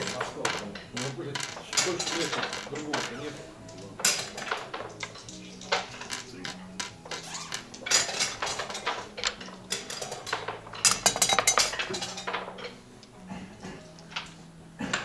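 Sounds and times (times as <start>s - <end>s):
dice rattling across board: 0.0s - 12.8s
wooden checkers clacking: 0.0s - 15.0s.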